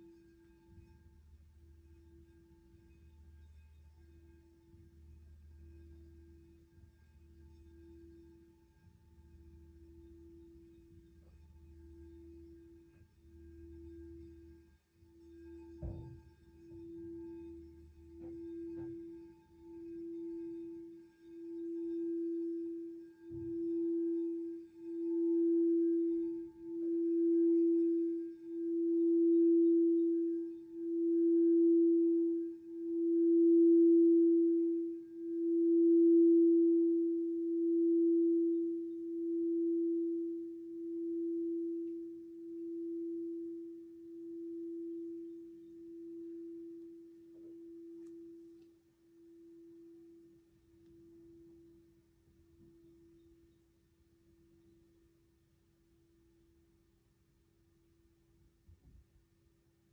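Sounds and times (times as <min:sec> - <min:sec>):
crystal singing bowl ringing: 0:00.0 - 0:55.4.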